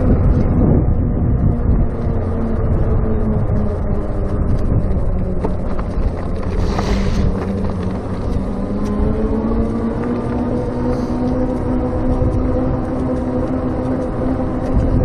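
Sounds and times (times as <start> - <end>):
wind rushing over microphone: 0.0 - 15.0
electric motor hum: 1.1 - 15.0
tyre noise: 1.5 - 15.0.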